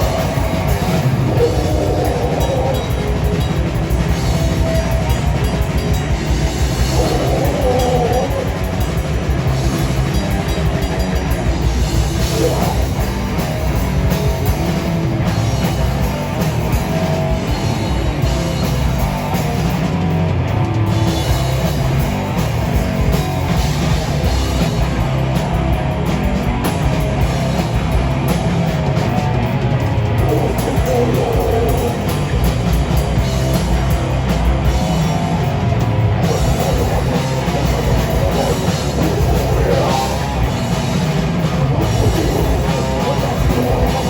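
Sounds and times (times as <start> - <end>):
rock band playing live: 0.0 - 44.0.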